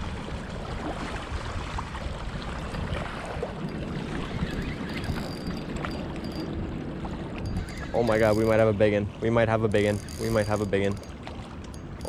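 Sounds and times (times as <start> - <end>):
strong river current: 0.0 - 12.0
wind rumble on microphone: 0.0 - 12.0.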